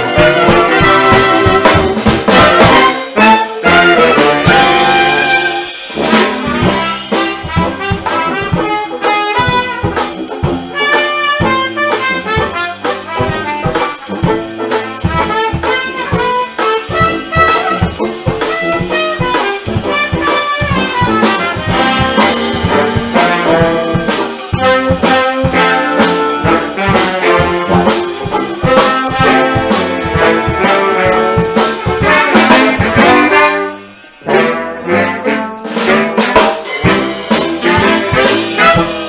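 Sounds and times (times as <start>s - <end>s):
drum hits: 0.0s - 33.5s, 35.8s - 39.0s
brass band playing jazz: 0.0s - 39.0s.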